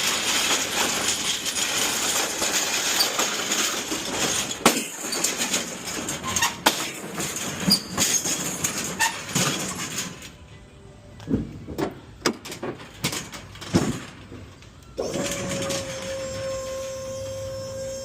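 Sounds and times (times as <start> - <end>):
metal cart rattling: 0.0 - 10.4, 11.7 - 16.5.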